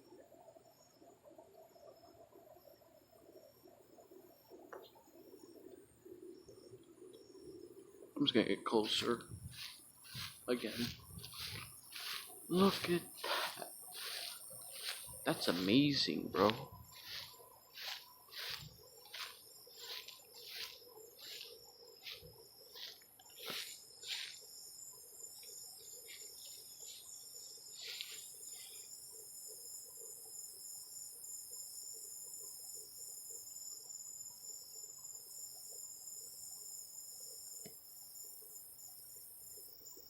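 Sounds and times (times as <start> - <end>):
crickets trilling: 0.0 - 40.0.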